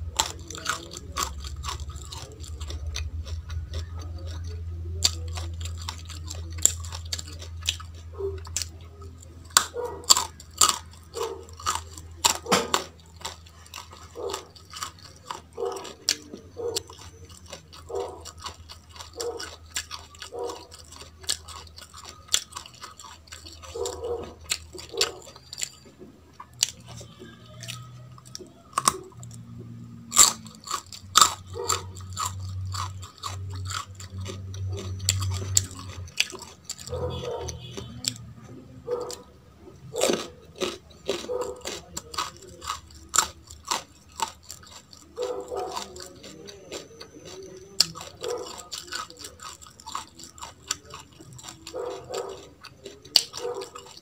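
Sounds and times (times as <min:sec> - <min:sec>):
chewing raw carrot crunches: 0:00.0 - 0:54.0.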